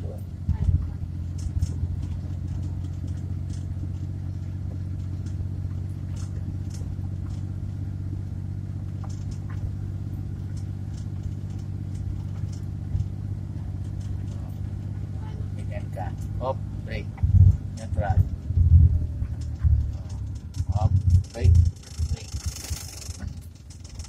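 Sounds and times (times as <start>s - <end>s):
light rattles: 0.0s - 24.0s
van engine and road drone: 0.0s - 24.0s.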